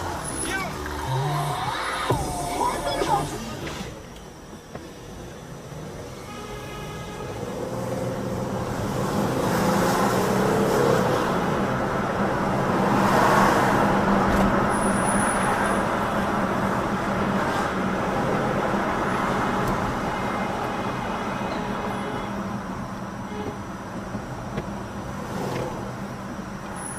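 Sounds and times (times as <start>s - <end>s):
car road noise: 0.0s - 26.9s.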